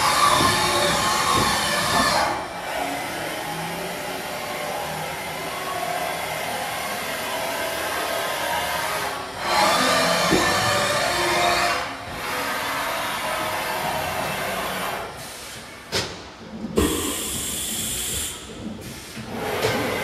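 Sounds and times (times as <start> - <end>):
loud rushing mechanical noise: 0.0 - 20.0
steady machine hum: 0.0 - 20.0.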